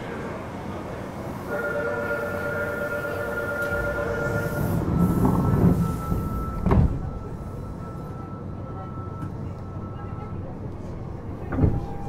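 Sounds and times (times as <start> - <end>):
train running noise: 0.0 - 12.0
train traction motor whine: 1.5 - 12.0.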